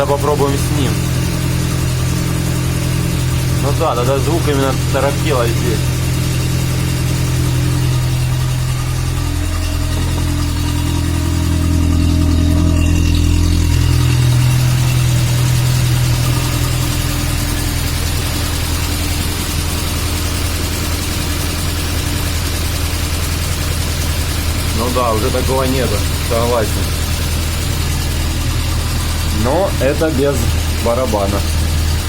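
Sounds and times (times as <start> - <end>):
engine and drivetrain hum: 0.0 - 32.0.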